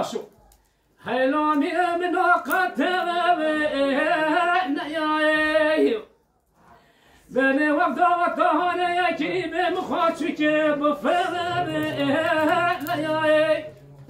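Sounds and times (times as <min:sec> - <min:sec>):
man singing unaccompanied: 0:01.0 - 0:06.1, 0:07.3 - 0:14.0.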